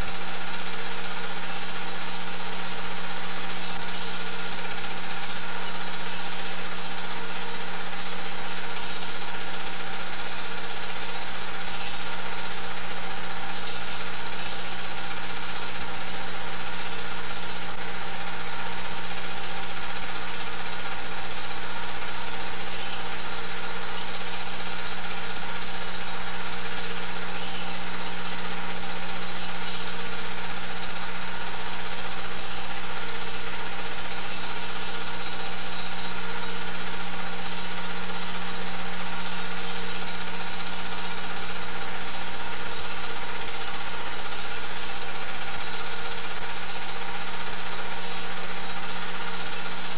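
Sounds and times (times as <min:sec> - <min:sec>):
film projector motor whirring: 0:00.0 - 0:49.9.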